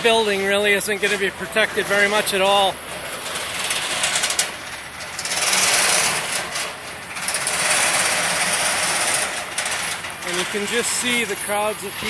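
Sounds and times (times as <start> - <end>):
work vehicle engines: 0.0 - 12.0.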